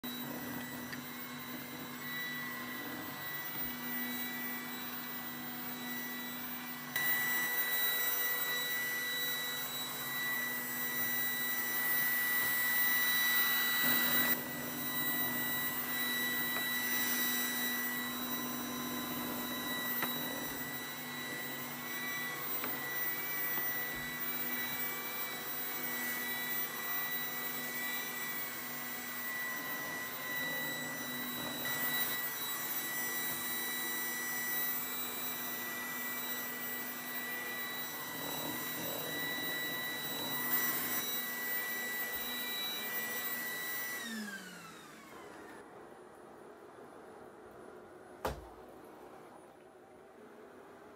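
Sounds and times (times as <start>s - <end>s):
robot vacuum running: 0.0s - 45.6s.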